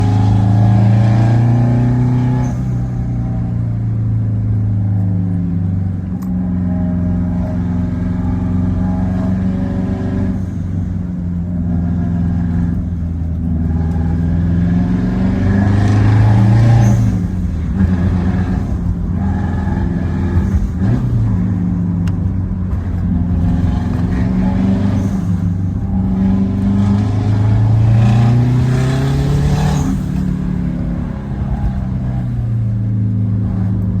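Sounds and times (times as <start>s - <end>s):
car engine accelerating through gears: 0.0s - 34.0s.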